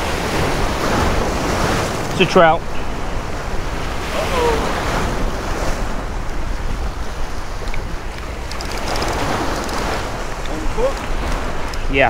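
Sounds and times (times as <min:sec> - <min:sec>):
surf breaking over rocks: 0:00.0 - 0:12.0
wind buffeting microphone: 0:00.0 - 0:12.0.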